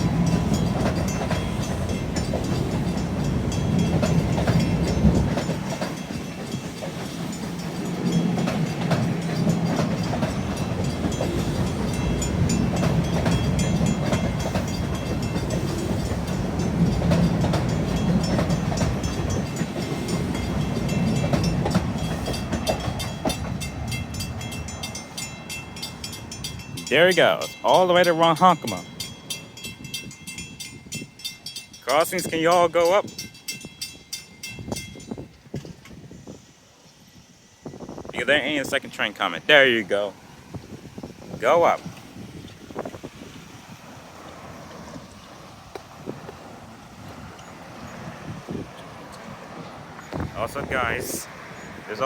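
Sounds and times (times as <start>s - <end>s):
rail joint clicks: 0.0s - 52.0s
train wheels rumbling on rails: 0.0s - 52.0s.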